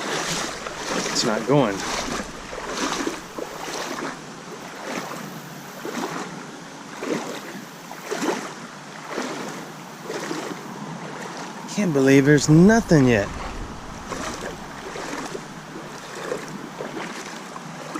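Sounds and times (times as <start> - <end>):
stream rushing: 0.0 - 7.1, 8.7 - 17.9
boots splashing through water: 0.0 - 11.6, 12.3 - 17.9.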